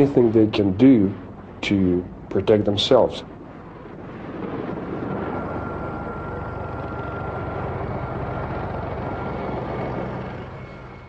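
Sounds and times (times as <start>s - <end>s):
helicopter rotor chopping: 0.0s - 11.0s
thin steady whine: 0.0s - 11.0s.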